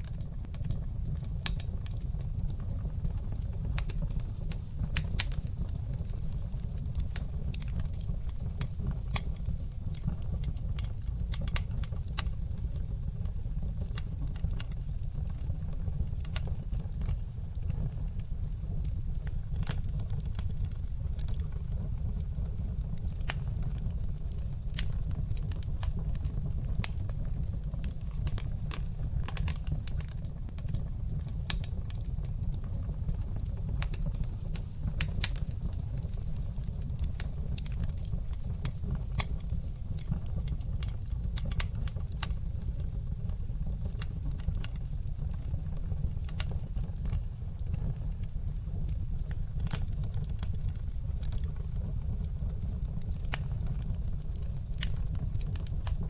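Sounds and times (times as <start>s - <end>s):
fire crackling and popping: 0.0s - 56.0s
wood fire flames rumbling: 0.0s - 56.0s.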